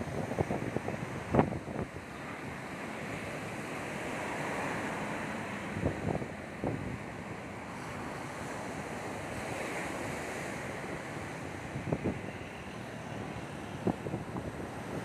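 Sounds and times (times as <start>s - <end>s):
wind buffeting microphone: 0.0s - 4.1s, 5.5s - 7.2s, 7.8s - 15.0s
waves washing up a beach: 0.0s - 15.0s.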